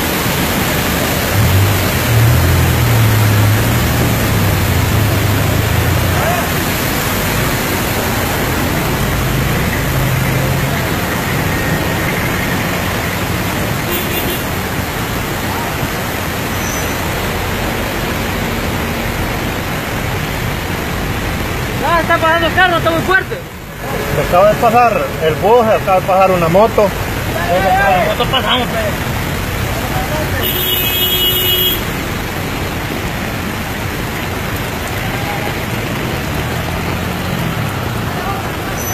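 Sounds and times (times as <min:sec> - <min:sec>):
rain: 0:00.0 - 0:38.9
rushing water: 0:00.0 - 0:38.9
tyres hissing on wet road: 0:00.0 - 0:38.9
vehicle engines idling: 0:00.0 - 0:38.9.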